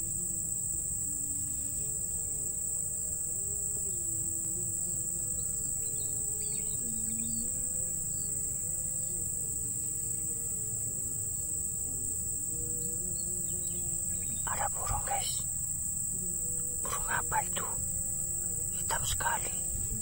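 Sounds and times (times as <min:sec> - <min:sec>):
faint low shifting tones: 0:00.0 - 0:20.0
insects buzzing: 0:00.0 - 0:20.0.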